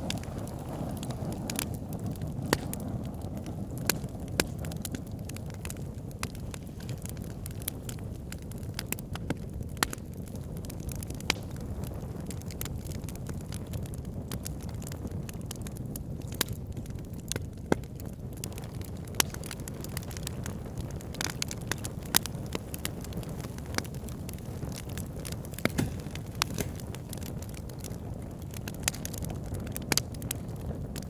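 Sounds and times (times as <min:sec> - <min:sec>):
fire popping: 0:00.0 - 0:31.0
wood fire crackling: 0:00.0 - 0:31.0.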